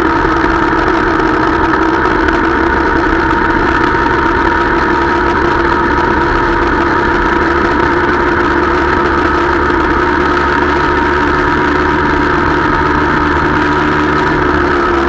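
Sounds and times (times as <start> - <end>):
small motorcycle engine cruising: 0.0 - 15.0.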